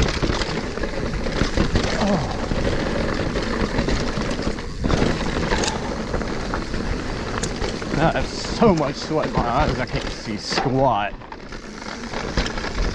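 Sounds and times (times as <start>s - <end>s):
bike rattling over rocks: 0.0s - 12.9s.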